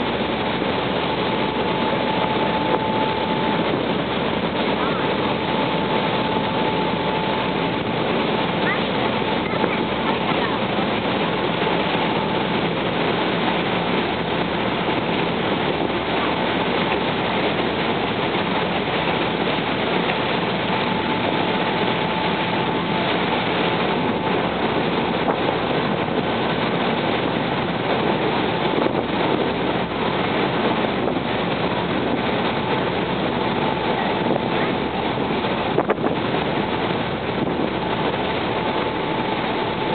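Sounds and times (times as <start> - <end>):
boat engine running: 0.0 - 39.9
wind and water noise: 0.0 - 39.9.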